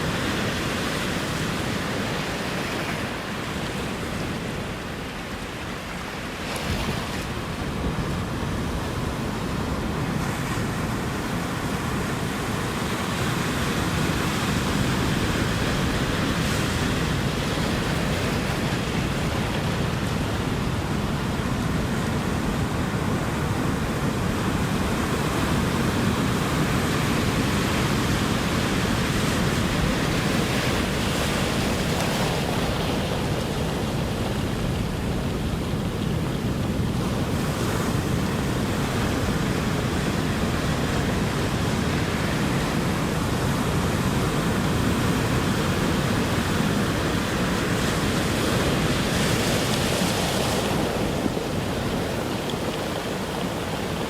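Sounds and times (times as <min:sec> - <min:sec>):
ocean surf on shore: 0:00.0 - 0:54.0.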